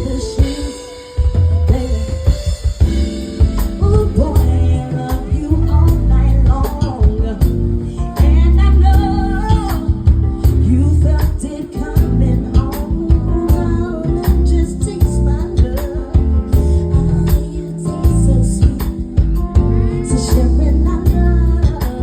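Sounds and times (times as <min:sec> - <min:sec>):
live soul band music: 0:00.0 - 0:22.0
person singing: 0:00.0 - 0:22.0.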